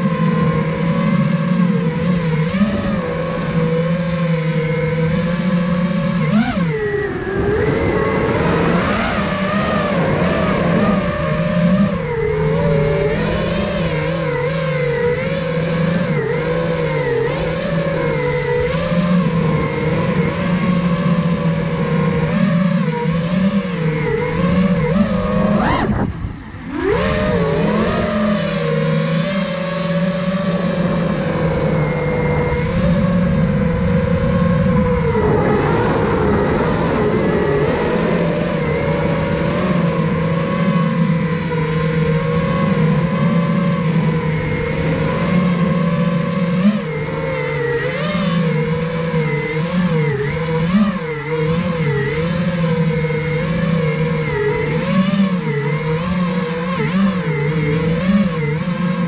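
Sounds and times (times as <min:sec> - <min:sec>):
drone motors whining: 0:00.0 - 0:59.0.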